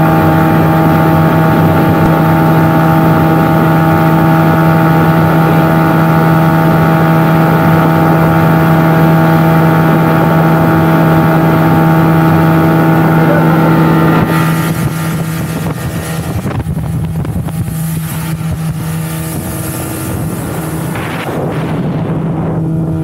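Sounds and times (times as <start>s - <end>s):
outboard motor running: 0.0s - 23.0s
water rushing: 0.0s - 23.0s
wind: 0.0s - 23.0s.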